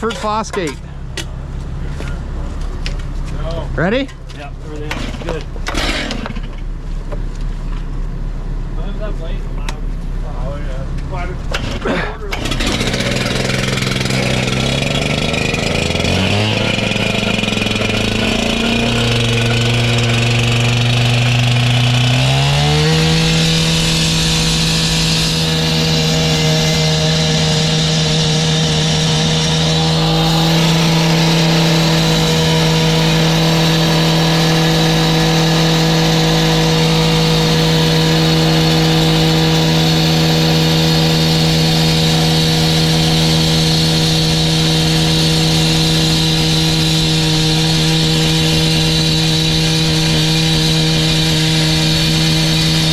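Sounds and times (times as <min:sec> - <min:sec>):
engine revving: 0:04.8 - 0:06.4, 0:11.6 - 0:52.9.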